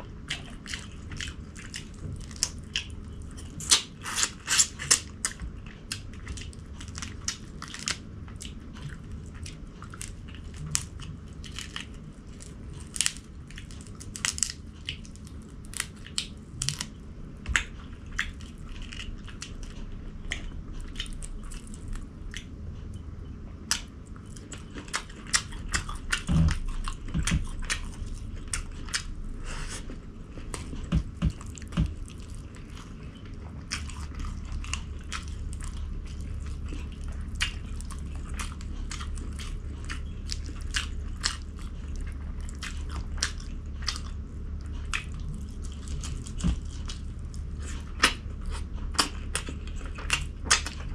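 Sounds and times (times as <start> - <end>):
person crunching and chewing: 0.0 - 22.5, 23.7 - 50.9.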